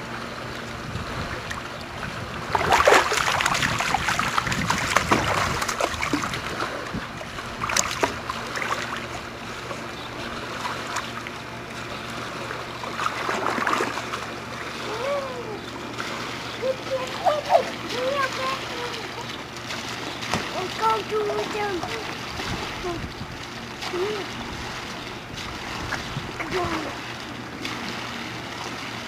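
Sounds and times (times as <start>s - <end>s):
pool water splashing and sloshing: 0.0s - 29.0s.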